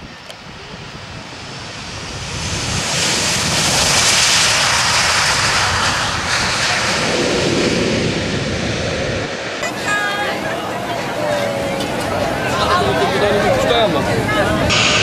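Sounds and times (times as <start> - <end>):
jet aircraft engine: 0.0 - 15.0.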